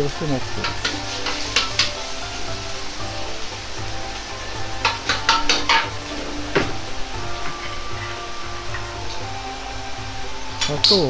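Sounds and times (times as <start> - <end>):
low sizzle of oil: 0.0 - 11.0
metal ladle scraping wok: 0.1 - 10.7.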